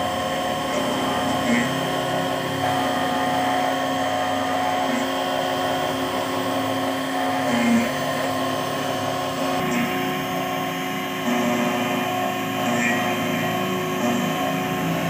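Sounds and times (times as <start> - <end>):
key cutting machine humming: 0.0 - 15.0.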